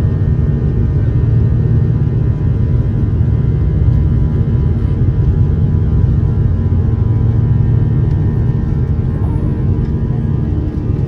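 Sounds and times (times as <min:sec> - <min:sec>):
faint engine whine: 0:00.0 - 0:11.0
jet engines rumbling in cabin: 0:00.0 - 0:11.0.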